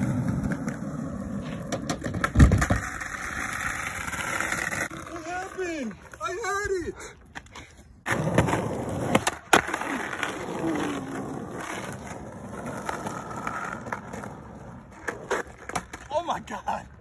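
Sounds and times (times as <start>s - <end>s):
skateboard clacking on pavement: 0.0s - 6.4s, 8.1s - 16.3s
skateboard wheels rolling on asphalt: 0.0s - 17.0s.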